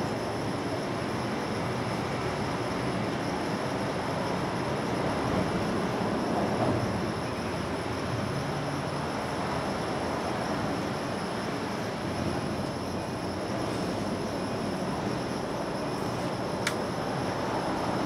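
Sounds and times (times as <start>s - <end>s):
low rumble of distant transport: 0.0s - 18.0s.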